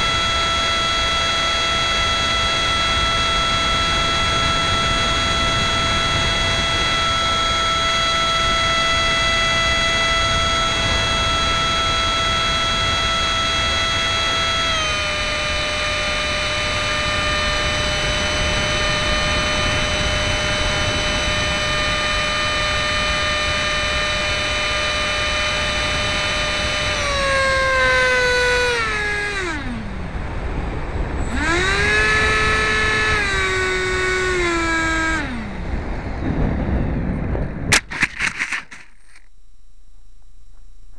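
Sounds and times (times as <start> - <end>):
wind rushing over microphone: 0.0 - 38.8
electric fan whining: 0.0 - 40.9.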